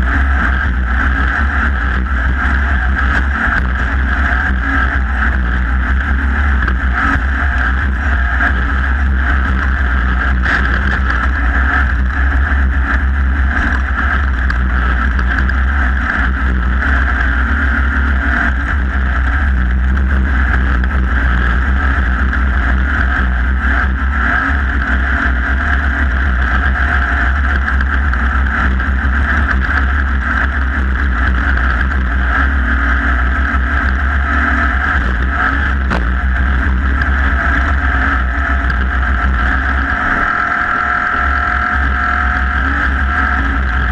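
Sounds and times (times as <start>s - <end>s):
off-road vehicle engine running hard: 0.0s - 43.9s.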